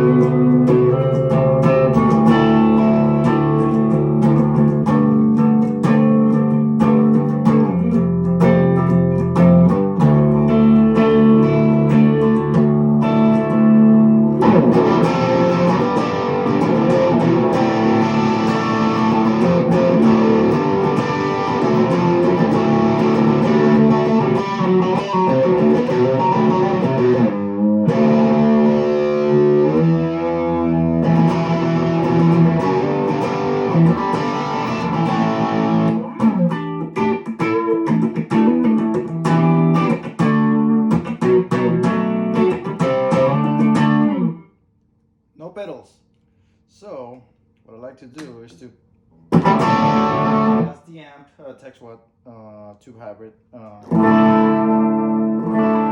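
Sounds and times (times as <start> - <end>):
electric guitar chords and riffs: 0.0 - 44.5, 49.2 - 50.8, 53.8 - 55.9.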